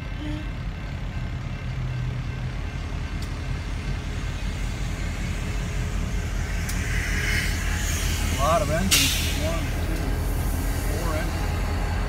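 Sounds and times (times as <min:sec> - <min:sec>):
diesel locomotive engines droning: 0:00.0 - 0:12.0.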